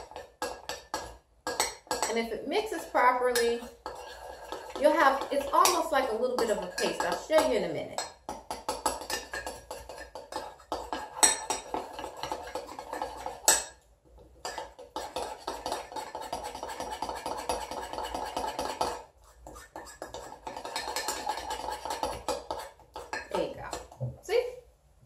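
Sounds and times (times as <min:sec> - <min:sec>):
spoon stirring in small dish: 0:00.0 - 0:24.2.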